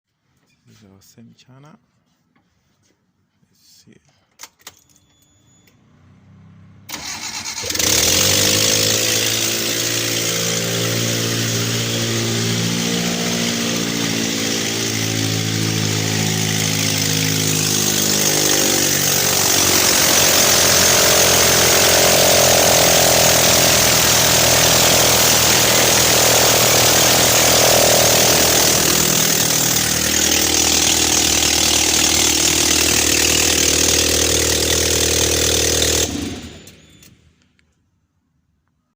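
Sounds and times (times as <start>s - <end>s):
van engine starting and running: 5.7s - 37.4s.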